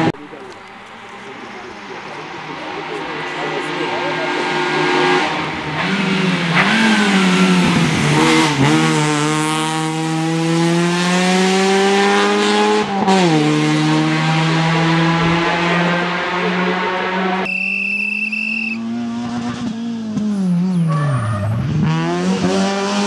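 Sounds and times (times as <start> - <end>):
car engine accelerating hard: 0.0 - 18.2, 18.8 - 23.0.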